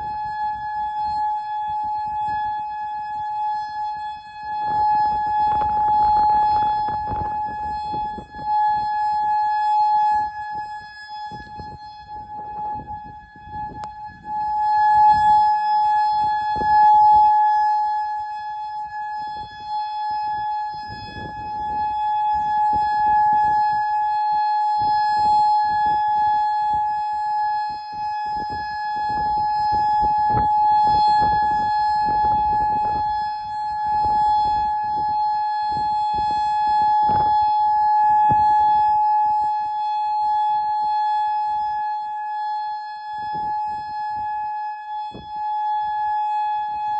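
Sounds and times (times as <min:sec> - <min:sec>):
electronic warning siren: 0:00.0 - 0:46.9.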